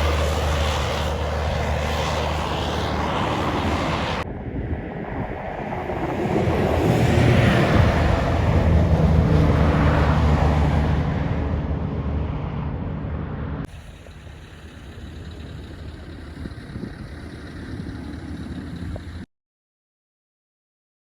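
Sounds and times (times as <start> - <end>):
diesel truck engine droning: 0.0 - 19.3
low rumble of traffic: 0.0 - 19.3.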